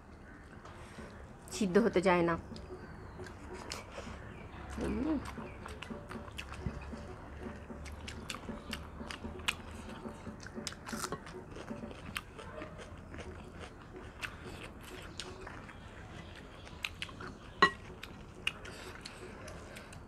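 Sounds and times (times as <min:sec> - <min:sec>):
people chewing with wet smacks: 0:02.4 - 0:20.0.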